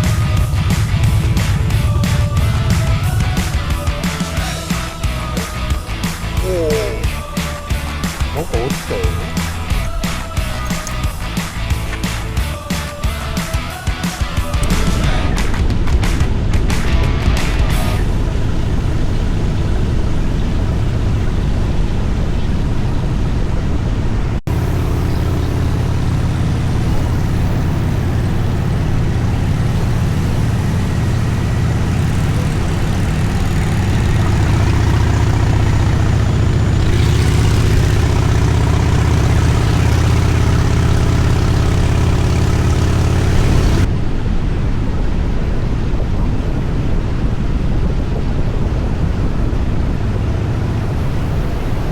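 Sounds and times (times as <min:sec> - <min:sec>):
motorcycle engine running: 0:00.0 - 0:44.0, 0:48.5 - 0:51.9
road noise: 0:00.0 - 0:51.9.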